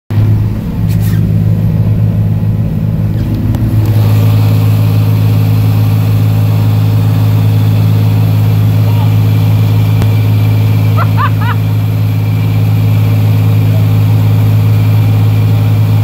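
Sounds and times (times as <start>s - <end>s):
boat engine drone: 0.1s - 16.0s.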